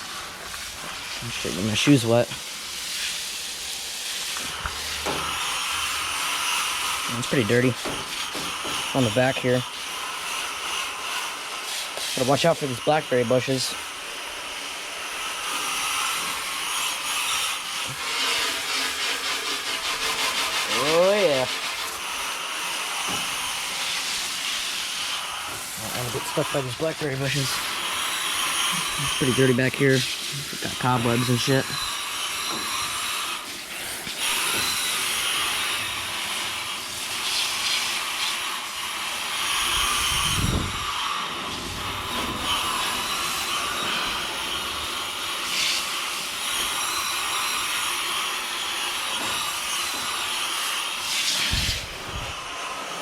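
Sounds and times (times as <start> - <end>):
hose spraying water on metal fins: 0.0 - 53.0.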